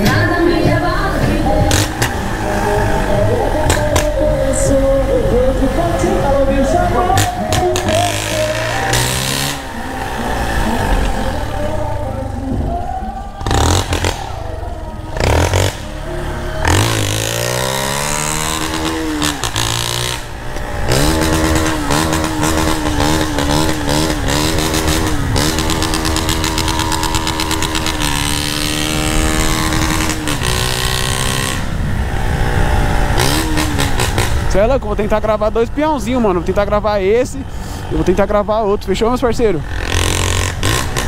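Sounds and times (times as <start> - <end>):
loud motorcycle accelerating: 0.0 - 41.0.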